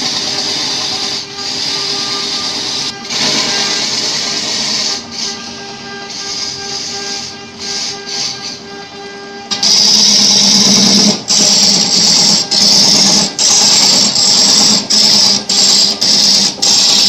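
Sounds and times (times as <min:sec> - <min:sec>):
lathe humming: 0:00.0 - 0:17.0.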